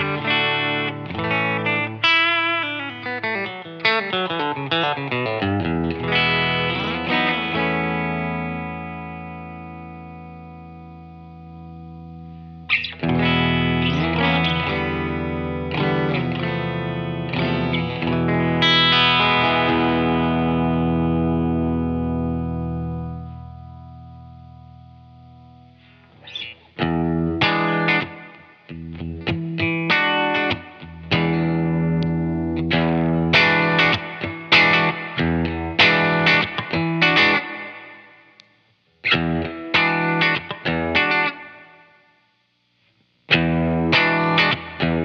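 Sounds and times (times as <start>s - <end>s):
electric guitar notes and chords: 0.0s - 42.2s, 43.2s - 45.0s.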